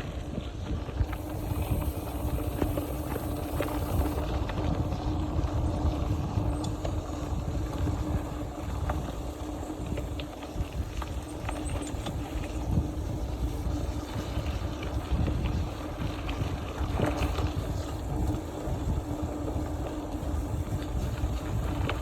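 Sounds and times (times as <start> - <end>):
low tyre rumble: 0.0 - 22.0
wind buffeting microphone: 0.0 - 22.0
steady low hum: 1.0 - 22.0.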